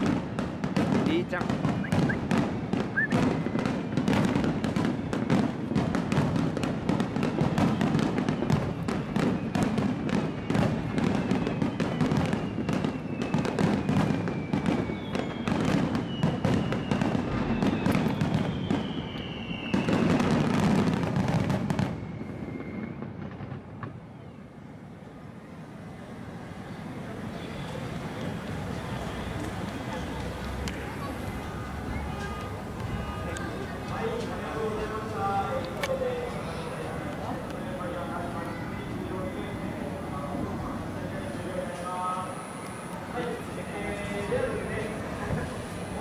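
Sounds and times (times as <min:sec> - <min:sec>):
fireworks bursting with booms and crackle: 0:00.0 - 0:24.4, 0:25.3 - 0:46.0.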